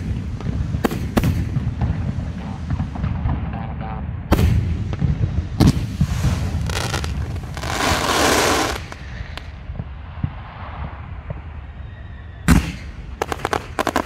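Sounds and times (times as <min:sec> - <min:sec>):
firework crackle: 0:00.0 - 0:03.3, 0:04.4 - 0:14.0
low rumble: 0:00.0 - 0:13.2.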